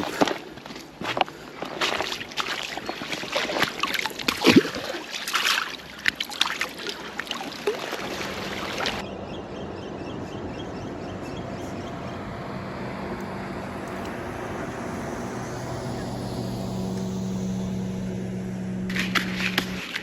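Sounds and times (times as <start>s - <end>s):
water splashing and sloshing: 0.0s - 9.1s, 11.6s - 20.0s.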